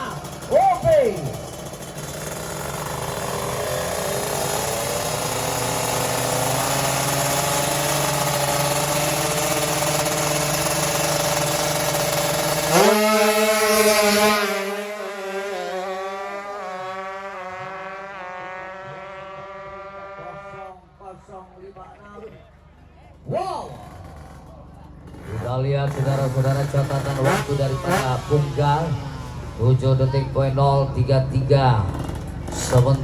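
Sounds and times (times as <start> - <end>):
two-stroke motorcycles revving: 0.0 - 20.8, 23.2 - 33.0.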